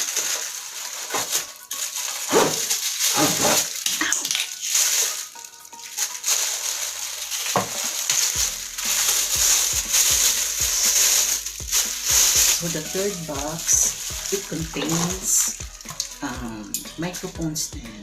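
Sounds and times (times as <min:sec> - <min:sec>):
plastic and cardboard crinkling: 0:00.0 - 0:17.5.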